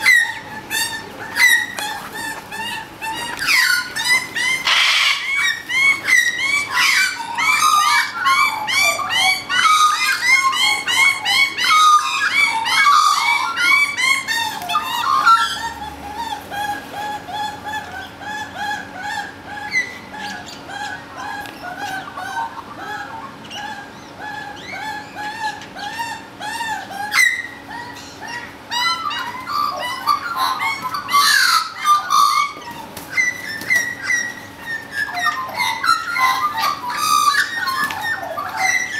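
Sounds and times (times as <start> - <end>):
magpies calling: 0.0 - 38.9.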